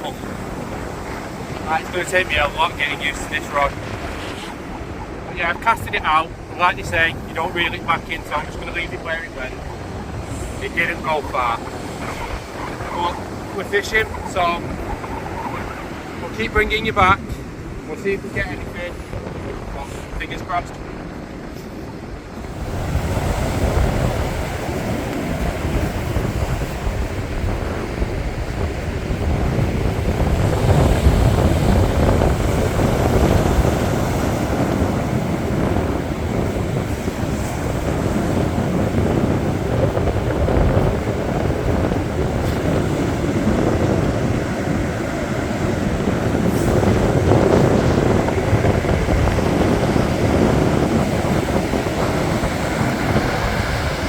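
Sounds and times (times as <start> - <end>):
waves washing on beach: 0.0 - 54.0
wind buffeting microphone: 0.0 - 54.0.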